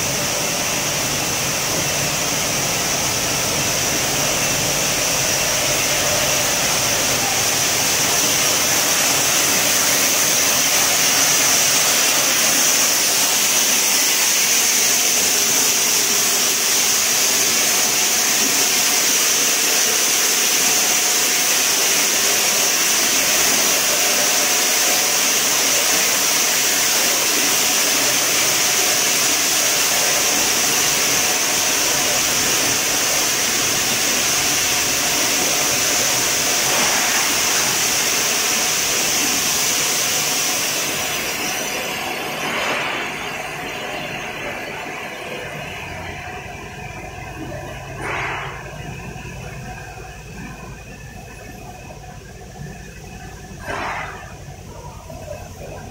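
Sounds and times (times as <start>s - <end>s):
bottling machinery whirring and hissing: 0.0s - 55.9s.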